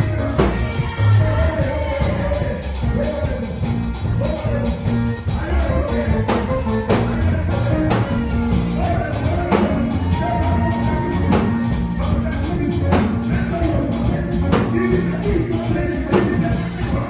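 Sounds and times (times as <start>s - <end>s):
band music with bass and drums: 0.0s - 17.0s
drum and cymbal hits: 0.0s - 17.0s.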